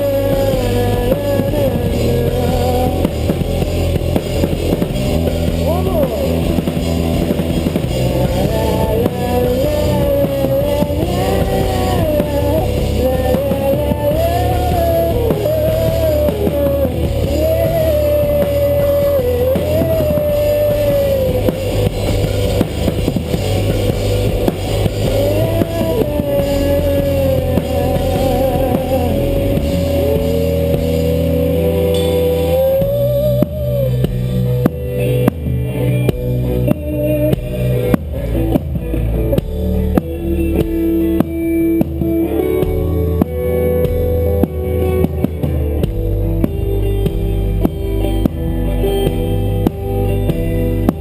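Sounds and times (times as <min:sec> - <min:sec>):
rock band playing live: 0:00.0 - 0:51.0.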